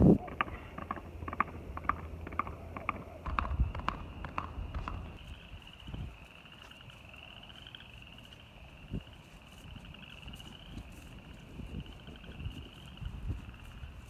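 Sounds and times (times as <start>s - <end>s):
hooves clopping on asphalt: 0.2s - 14.0s.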